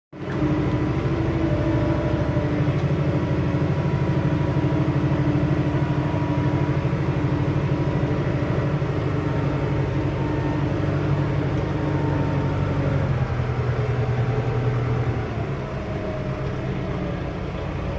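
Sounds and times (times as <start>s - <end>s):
diesel engine running: 0.2s - 17.9s.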